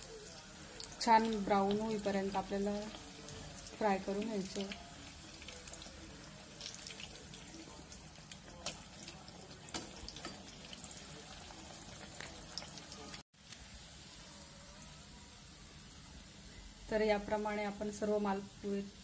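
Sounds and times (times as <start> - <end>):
dough frying in hot oil: 0.0 - 19.0.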